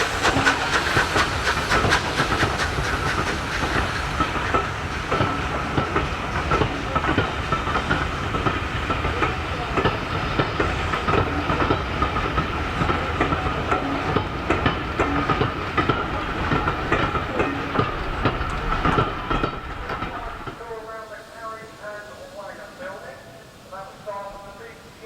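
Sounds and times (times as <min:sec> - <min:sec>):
train wheels clattering: 0:00.0 - 0:21.0.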